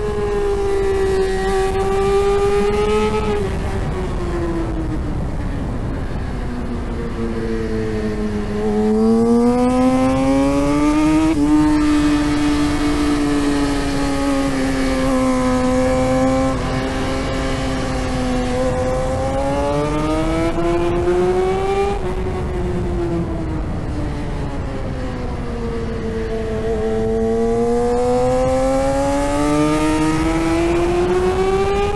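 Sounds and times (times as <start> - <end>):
motorcycle engine revving: 0.0 - 4.7, 5.4 - 31.9
wind noise: 0.0 - 31.9.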